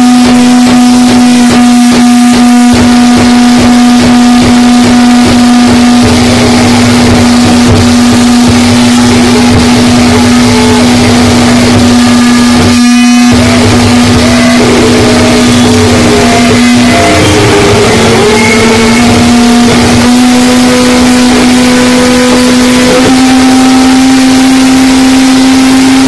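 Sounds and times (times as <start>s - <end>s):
pulsing low rumble: 0.0s - 24.6s
distorted noise wall: 0.0s - 26.0s
rapid stutter: 0.0s - 26.0s
steady low drone: 0.0s - 26.0s.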